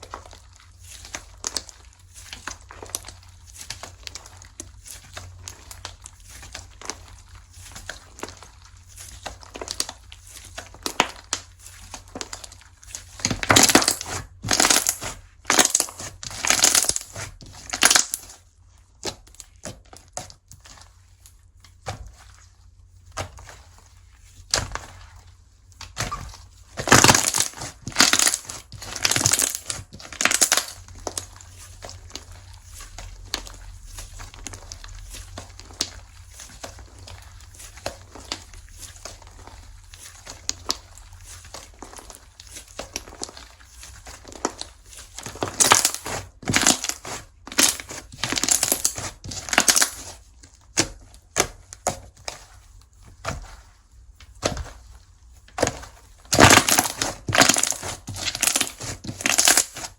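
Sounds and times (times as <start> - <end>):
slime crackling and squishing: 0.0 - 59.9.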